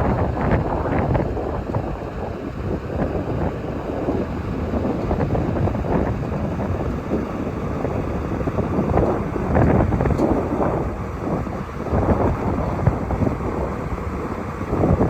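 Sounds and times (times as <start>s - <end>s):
wind buffeting microphone: 0.0s - 15.0s
excavator diesel engine running: 0.1s - 15.0s.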